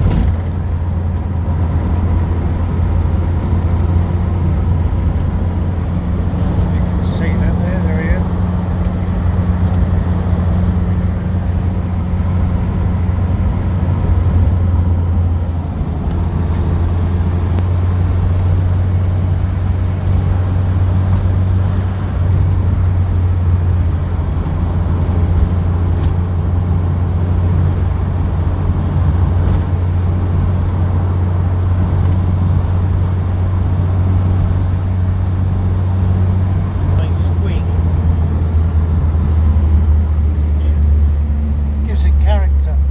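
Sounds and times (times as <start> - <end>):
car engine drone: 0.0 - 42.9
road noise inside car: 0.0 - 42.9.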